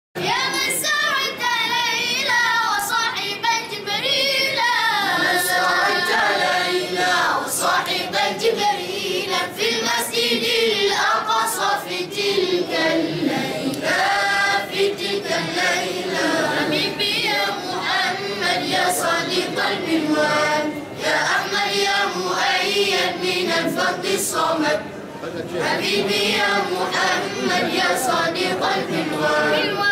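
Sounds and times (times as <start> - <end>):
voices singing devotional song: 0.2 - 29.9.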